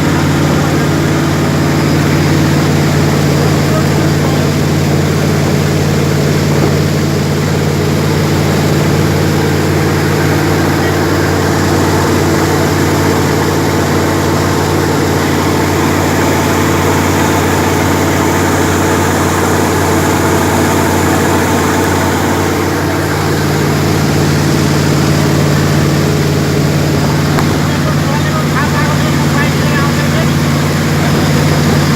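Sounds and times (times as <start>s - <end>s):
jet boat engine running: 0.0s - 31.9s
rushing water: 0.0s - 31.9s.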